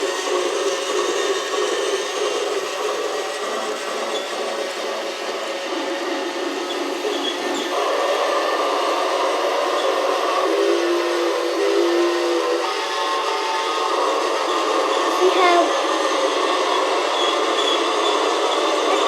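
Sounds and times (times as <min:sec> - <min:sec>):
toy train motor whir: 0:00.0 - 0:19.0
toy train sound effects: 0:00.0 - 0:19.0.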